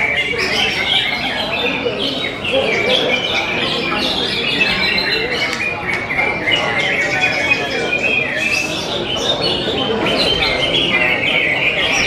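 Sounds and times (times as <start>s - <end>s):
many birds singing: 0.0s - 12.0s
murmur of crowd voices: 0.0s - 12.0s.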